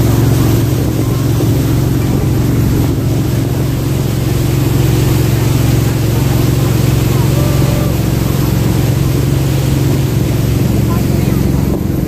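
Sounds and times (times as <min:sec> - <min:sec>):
boat engine droning: 0:00.0 - 0:12.0
water rushing hiss: 0:00.0 - 0:12.0.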